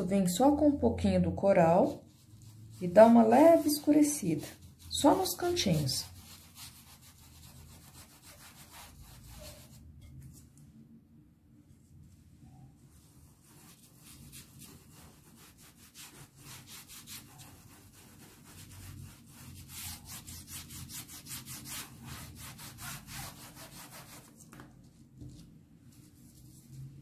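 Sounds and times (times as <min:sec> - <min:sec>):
paintbrush scrubbing fabric: 0:00.4 - 0:10.4, 0:12.4 - 0:24.4, 0:25.2 - 0:27.0.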